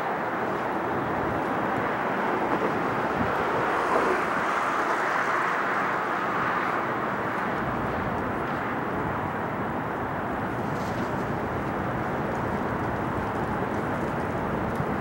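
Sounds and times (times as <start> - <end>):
distant jet engines roaring: 0.0 - 15.0.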